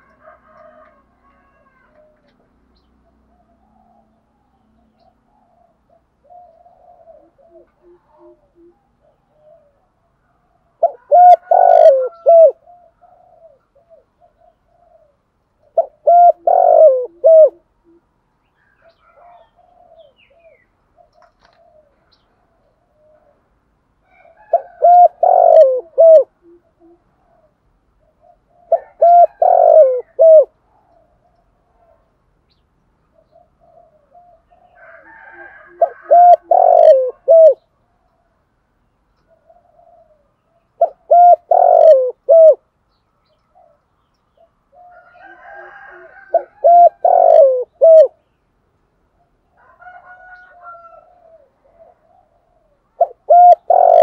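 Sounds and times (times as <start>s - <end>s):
faint soft coos: 0.0s - 32.2s, 33.2s - 38.4s, 39.3s - 42.6s, 44.7s - 48.2s, 49.2s - 54.0s
dove cooing: 0.0s - 38.4s, 39.2s - 48.3s, 49.2s - 54.0s.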